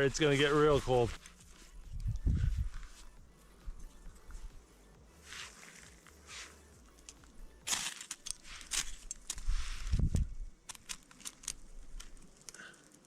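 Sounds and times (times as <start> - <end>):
flint and steel scraping: 0.0 - 13.0.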